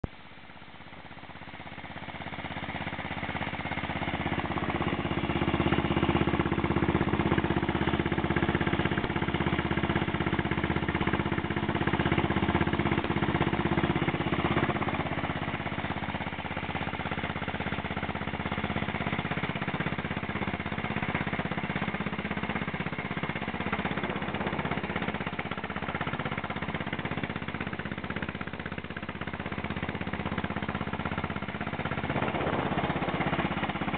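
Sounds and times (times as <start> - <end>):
motorcycle engine under load: 0.0 - 33.9.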